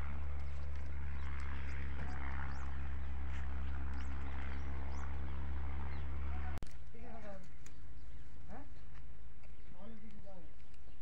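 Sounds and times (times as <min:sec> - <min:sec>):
engine low drone: 0:00.0 - 0:11.0.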